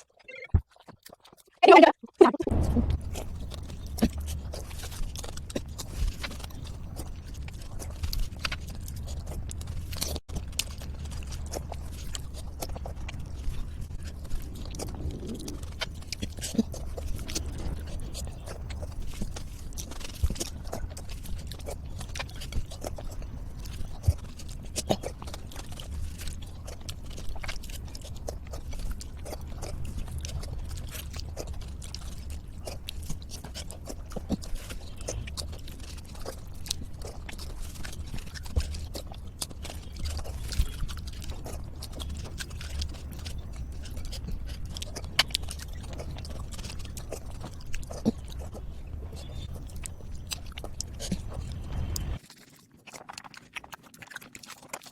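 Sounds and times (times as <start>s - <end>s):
chewing and lip smacks: 0.0s - 54.9s
steady low rumble: 2.3s - 52.2s.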